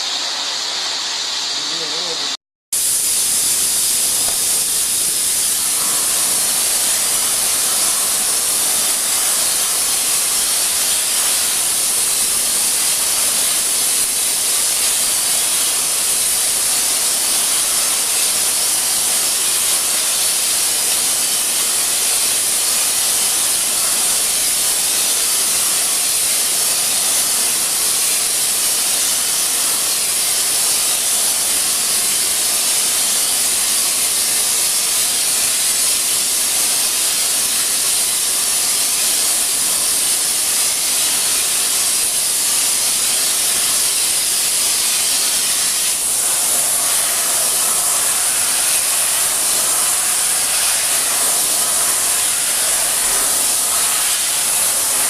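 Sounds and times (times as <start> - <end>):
loud steady hissing: 0.0 - 55.0.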